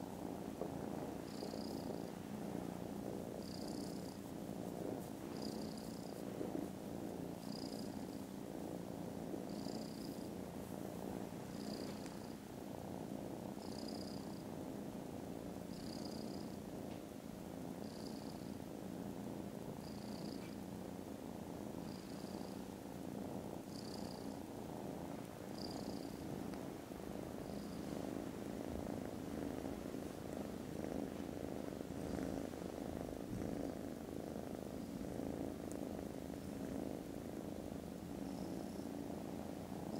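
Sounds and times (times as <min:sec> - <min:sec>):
kittens purring: 0:00.0 - 0:39.9.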